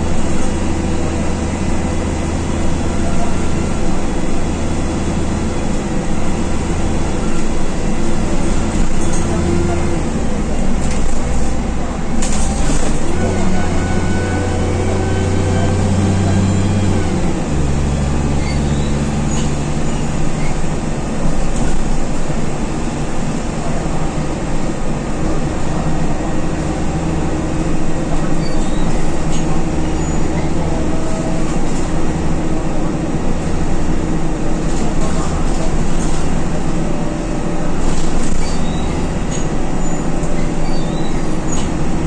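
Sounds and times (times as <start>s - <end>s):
bus engine pulling under load: 0.0s - 42.0s
road noise: 0.0s - 42.0s.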